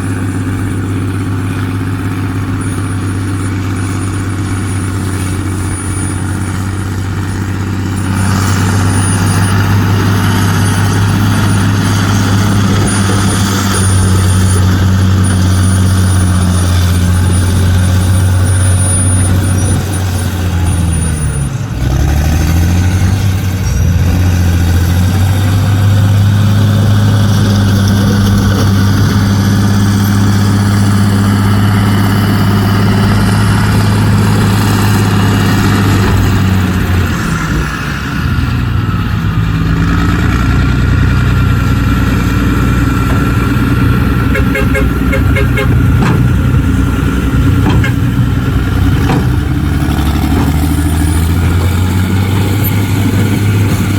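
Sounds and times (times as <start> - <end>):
heavy diesel engine under load: 0.0 - 53.9.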